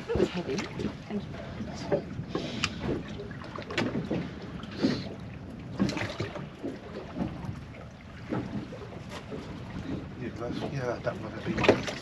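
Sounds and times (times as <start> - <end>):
low rumble of wind and sea: 0.0 - 12.0
water slapping against boat hull: 0.0 - 12.0.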